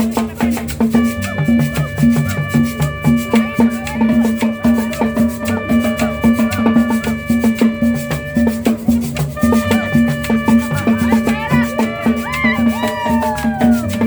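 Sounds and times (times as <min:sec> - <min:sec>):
latin dance music: 0:00.0 - 0:14.0.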